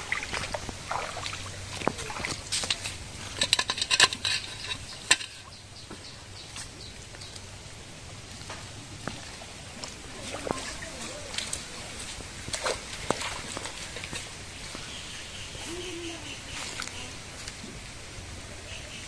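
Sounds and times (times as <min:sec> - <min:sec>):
water splashing: 0:00.0 - 0:18.8.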